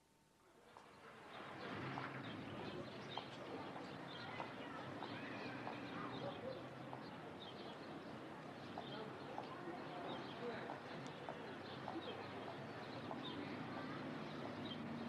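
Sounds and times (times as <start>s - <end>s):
small birds chirping: 2.2s - 15.0s.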